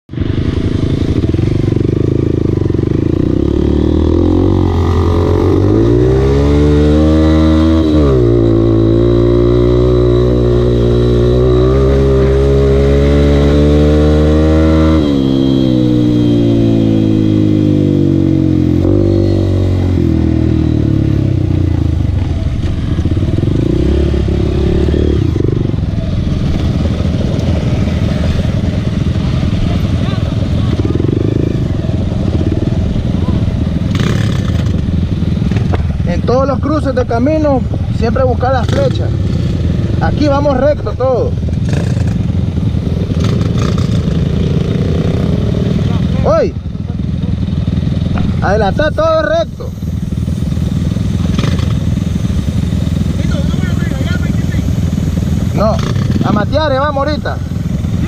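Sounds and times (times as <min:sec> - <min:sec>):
dirt bike engine: 0:00.1 - 0:58.0
other motorcycles: 0:00.1 - 0:58.0.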